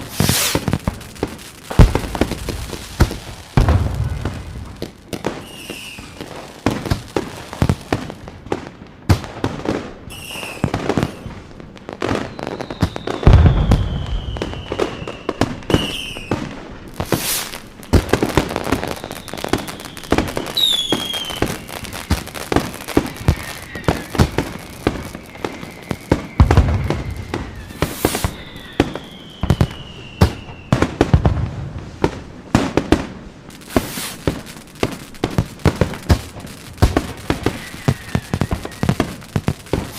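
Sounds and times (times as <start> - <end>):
falling firework whistles: 0.0 - 8.2, 9.5 - 39.9
deep firework booms: 0.0 - 10.0, 10.6 - 39.9
fireworks crackling and popping: 0.0 - 39.9.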